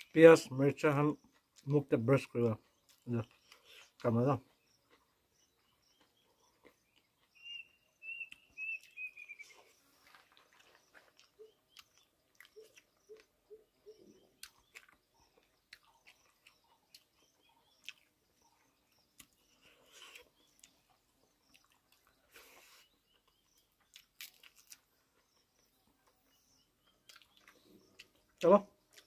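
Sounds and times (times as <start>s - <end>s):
chewing: 2.6s - 29.0s.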